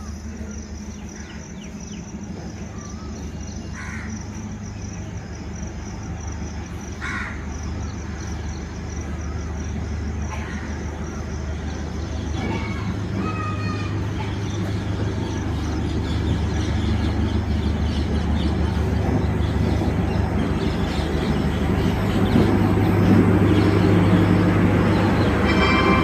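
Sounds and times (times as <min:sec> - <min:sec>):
diesel train drone: 0:00.0 - 0:26.0.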